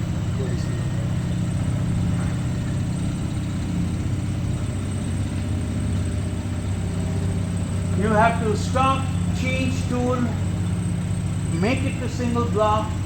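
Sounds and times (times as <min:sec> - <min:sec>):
milling machine humming: 0:00.0 - 0:13.0.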